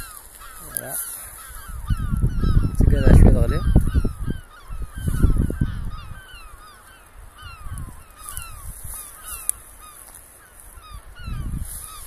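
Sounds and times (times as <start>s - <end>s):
gulls calling: 0.0s - 12.0s
wind buffeting microphone: 0.0s - 12.0s.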